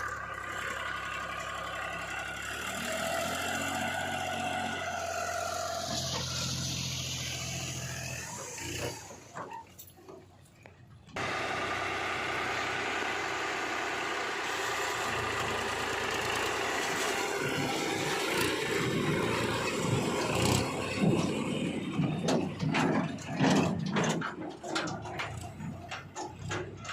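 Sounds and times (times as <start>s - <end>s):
heavy machinery diesel engine: 0.0s - 26.9s.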